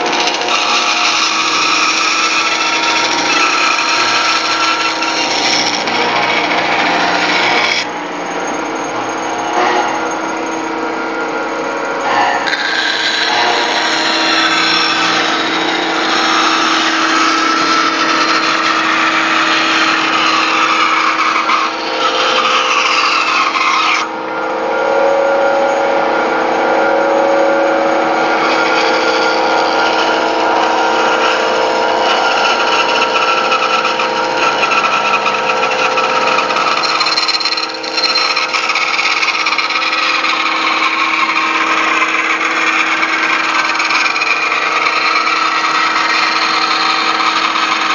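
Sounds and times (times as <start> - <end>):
band saw running: 0.0 - 47.9
saw blade cutting wood: 0.0 - 47.9.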